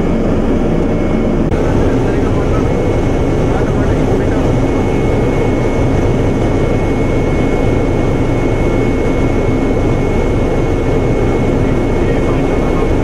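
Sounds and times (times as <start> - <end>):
helicopter engine and rotor drone: 0.0 - 13.0
high whine: 0.0 - 13.0.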